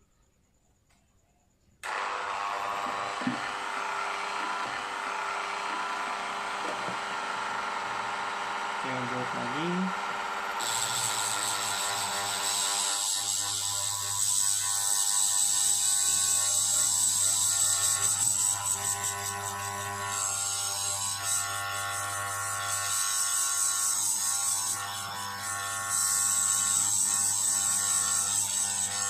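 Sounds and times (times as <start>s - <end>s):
mini drill whining: 1.8s - 29.0s.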